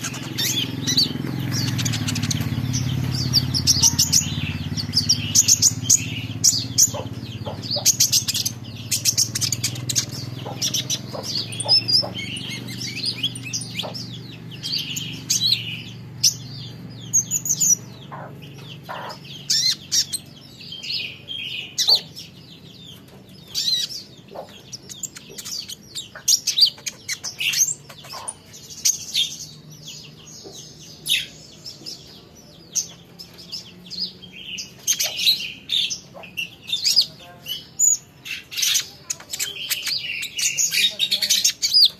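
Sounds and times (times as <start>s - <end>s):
sunbird chirping and twittering: 0.0s - 41.9s.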